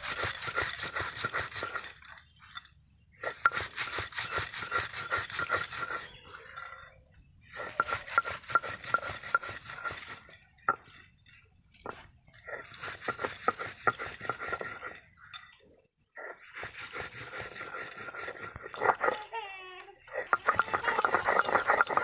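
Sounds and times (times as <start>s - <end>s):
stone pestle grinding on stone: 0.0s - 15.6s, 16.2s - 22.0s
bangles clinking: 0.0s - 22.0s.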